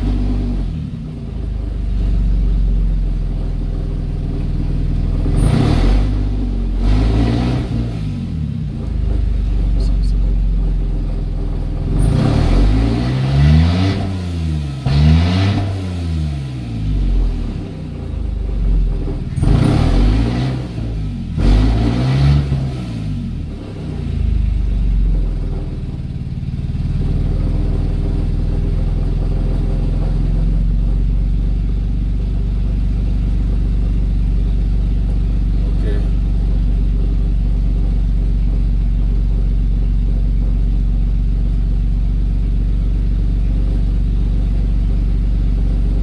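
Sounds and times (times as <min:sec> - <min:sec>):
car engine revving and idling: 0:00.0 - 0:46.0.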